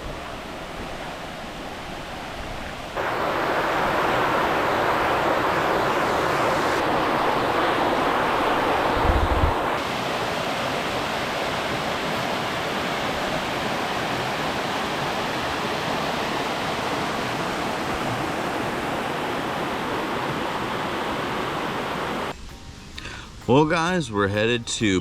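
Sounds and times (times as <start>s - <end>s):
waterfall rushing water: 0.0s - 24.3s.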